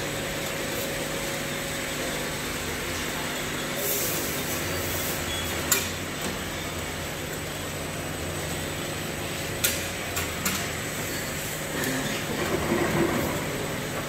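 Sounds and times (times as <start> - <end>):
machine hum with high whine: 0.0 - 14.0.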